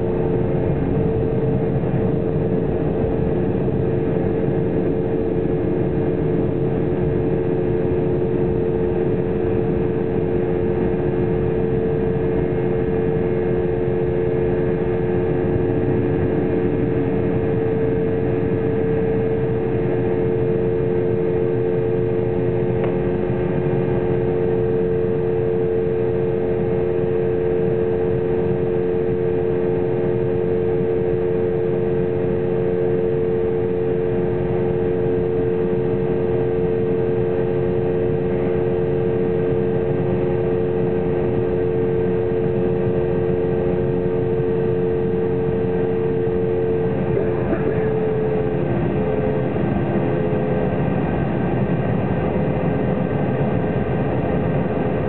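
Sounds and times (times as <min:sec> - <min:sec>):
jet engine drone: 0:00.0 - 0:55.0
steady hum: 0:00.0 - 0:55.0.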